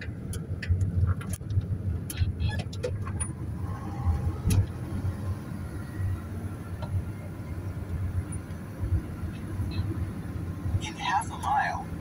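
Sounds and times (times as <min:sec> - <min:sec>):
car engine rumble: 0:00.0 - 0:12.0
tyres on the road: 0:00.0 - 0:12.0.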